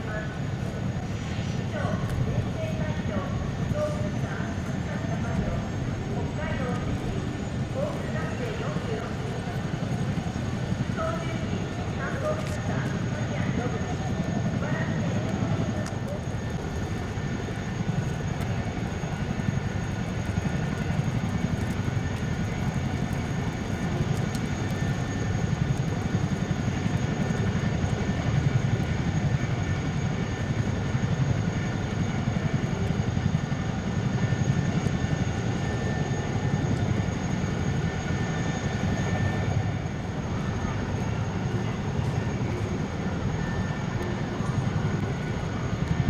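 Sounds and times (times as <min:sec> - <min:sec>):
jet engine rumble with whine: 0:00.0 - 0:46.0.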